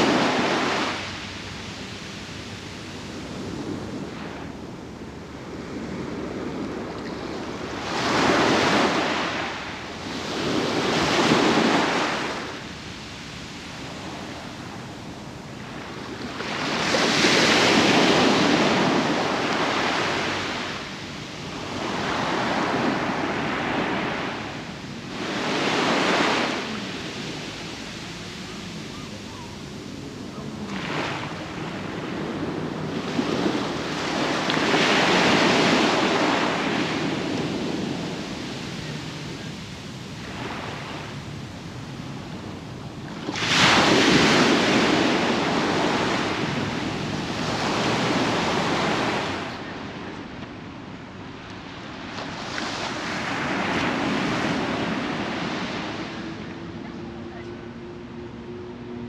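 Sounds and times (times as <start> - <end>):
ocean waves breaking on beach: 0.0 - 59.0
wind buffeting microphone: 0.0 - 59.0.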